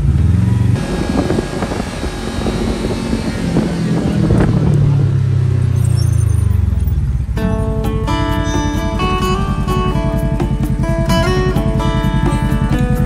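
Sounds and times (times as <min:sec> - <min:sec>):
utility vehicle engine drone: 0:00.0 - 0:13.0
vehicle rattling and knocks: 0:00.0 - 0:13.0.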